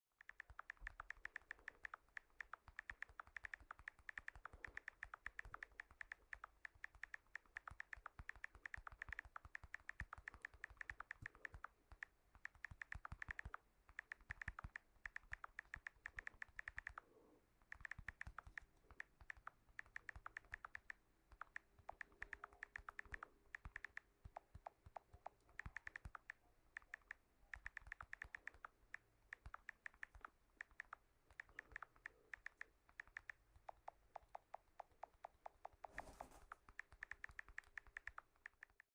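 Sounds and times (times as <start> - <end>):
phone keyboard clicks: 0.2 - 17.0, 17.6 - 38.9.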